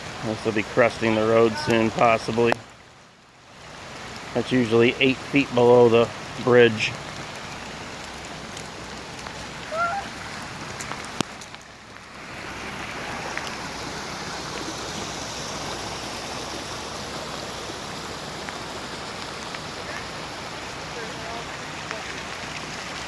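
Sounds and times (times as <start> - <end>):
floodwater rushing through creek: 0.0 - 23.0.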